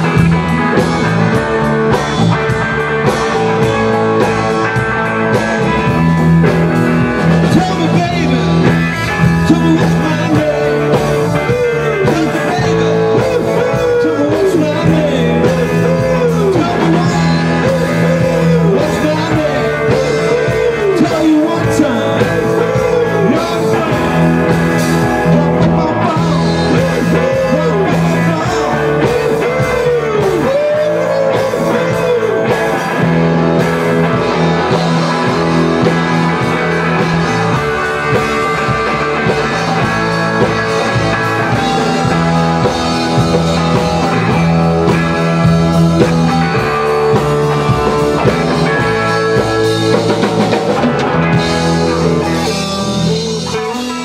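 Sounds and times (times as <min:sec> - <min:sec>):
drum kit: 0:00.0 - 0:54.0
electric bass: 0:00.0 - 0:54.0
electric guitars: 0:00.0 - 0:54.0.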